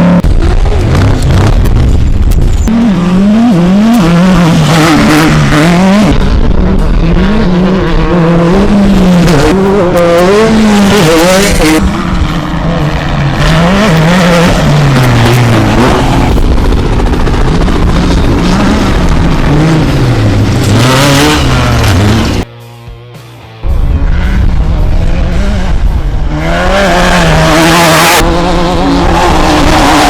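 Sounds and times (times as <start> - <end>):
race vehicle engine revving: 0.0 - 22.5, 23.7 - 30.0.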